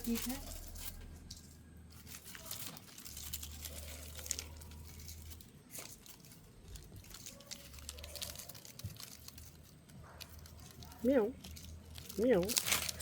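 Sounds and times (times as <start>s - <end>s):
dry leaves rustling and crunching: 0.0s - 13.0s.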